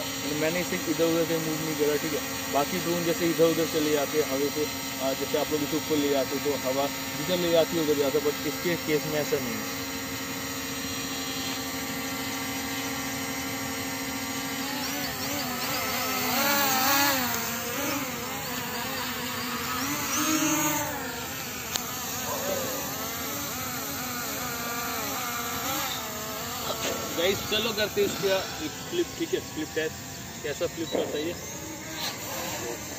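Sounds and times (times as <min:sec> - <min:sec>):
drone motors buzzing: 0:00.0 - 0:32.9.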